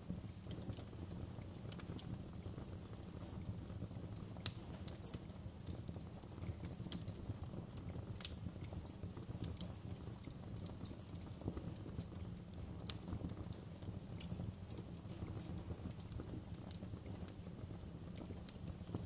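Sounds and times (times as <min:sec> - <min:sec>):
low steady fire rumble: 0:00.0 - 0:19.0
wood fire crackling and popping: 0:00.0 - 0:19.0.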